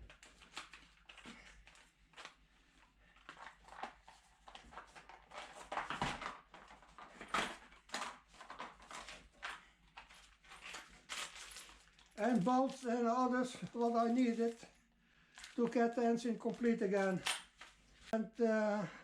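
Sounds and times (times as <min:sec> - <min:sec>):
packaging rustling: 0:00.0 - 0:14.7, 0:15.3 - 0:18.1.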